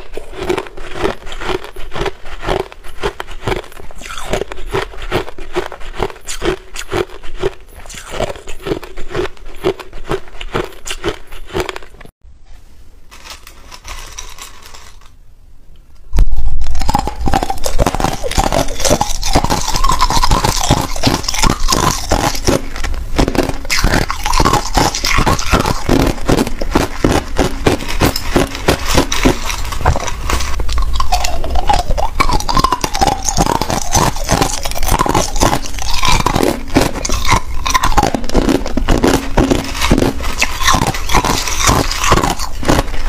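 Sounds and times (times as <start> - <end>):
ice being chewed: 0.0 - 12.1, 16.4 - 43.0.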